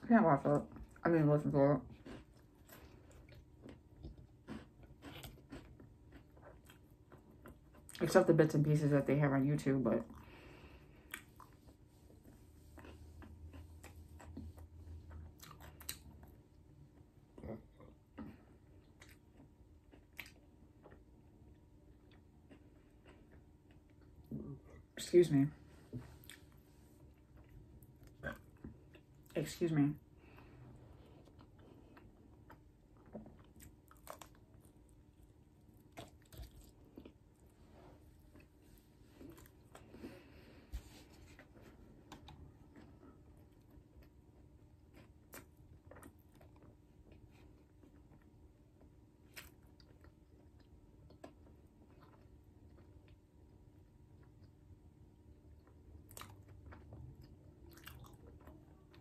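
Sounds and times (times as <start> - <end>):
low background hum: 0.0 - 59.0
person chewing: 1.9 - 8.0, 10.1 - 24.9, 25.9 - 29.4, 30.2 - 53.3, 55.6 - 59.0.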